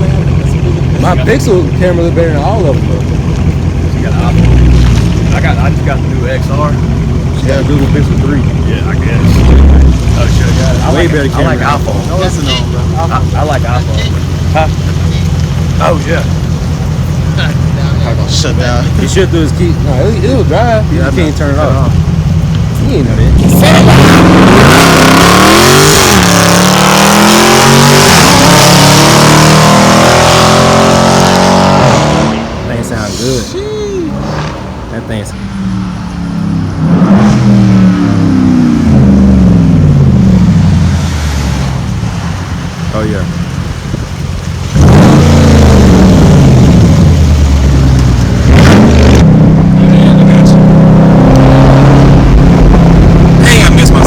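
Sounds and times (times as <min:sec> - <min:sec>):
loud car engine accelerating: 0:00.0 - 0:33.4, 0:34.0 - 0:54.0.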